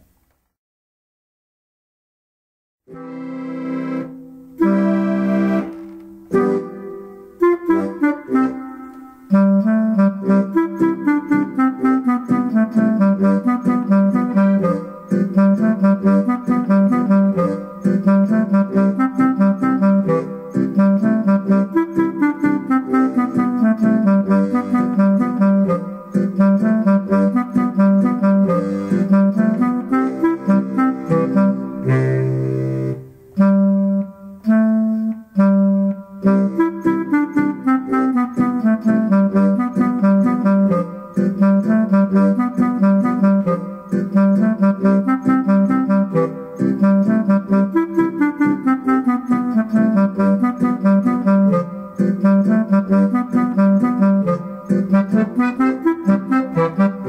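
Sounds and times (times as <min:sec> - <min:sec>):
accordion folk dance music: 0:02.9 - 0:33.4, 0:35.8 - 0:57.0.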